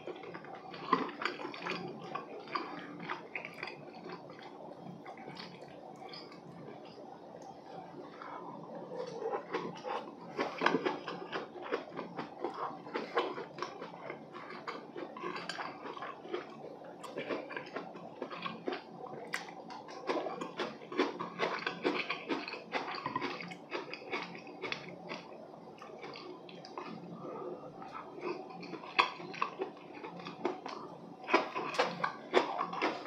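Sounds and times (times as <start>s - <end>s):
man chewing and smacking: 0.0s - 7.6s, 8.2s - 33.0s.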